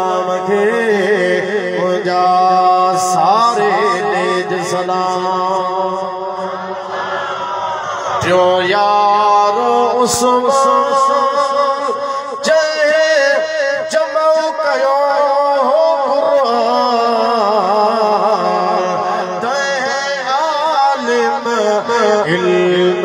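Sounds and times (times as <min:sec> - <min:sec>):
man chanting into a microphone: 0:00.0 - 0:06.9, 0:08.2 - 0:23.0.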